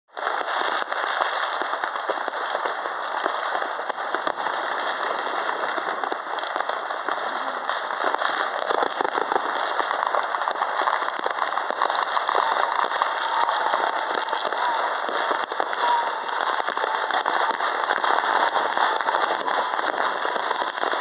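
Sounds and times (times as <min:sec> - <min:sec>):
fireworks crackling and popping: 0:00.1 - 0:21.0.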